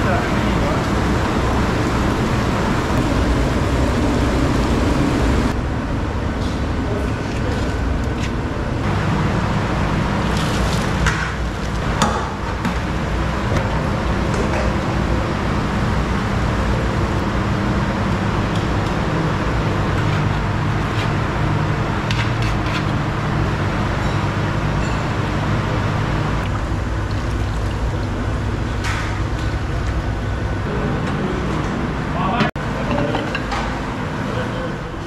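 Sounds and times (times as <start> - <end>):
kitchen equipment humming: 0.0 - 35.0.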